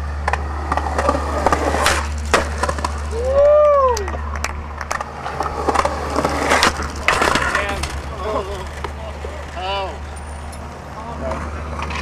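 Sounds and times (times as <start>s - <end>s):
skateboard clacks: 0.0s - 9.8s
skateboard rolling on concrete: 0.0s - 12.0s.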